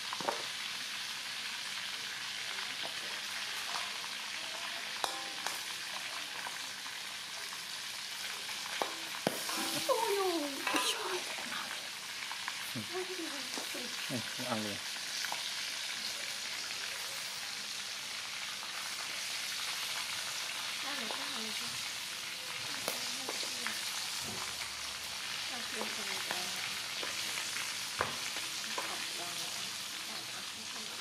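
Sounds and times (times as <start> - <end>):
food frying in hot oil: 0.0 - 31.0.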